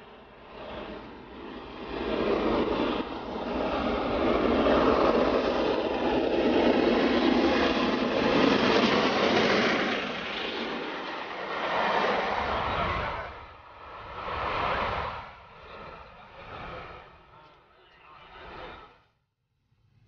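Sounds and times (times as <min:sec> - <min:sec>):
steam locomotive running at speed: 0:00.9 - 0:17.2.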